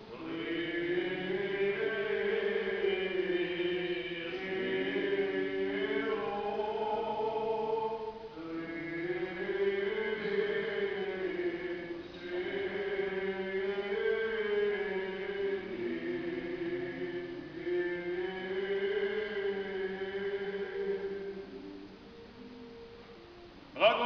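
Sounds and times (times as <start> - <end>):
church choir chanting a hymn: 0.0 - 24.0.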